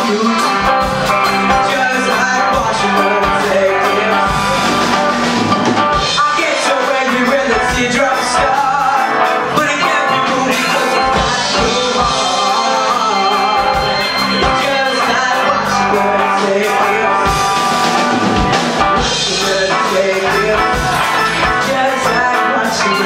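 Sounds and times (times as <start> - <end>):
man singing: 0.0 - 5.2, 5.9 - 23.0
drum kit: 0.0 - 23.0
electric bass: 0.0 - 23.0
electric guitar: 0.0 - 23.0.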